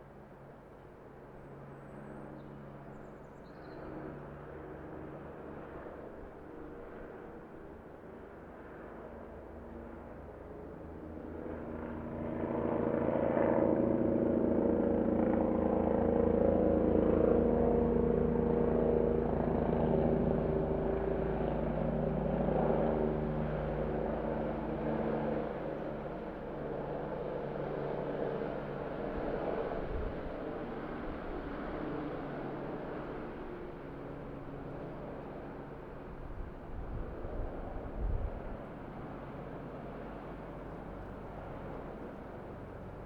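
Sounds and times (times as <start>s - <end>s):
helicopter engine hum: 1.5s - 43.0s.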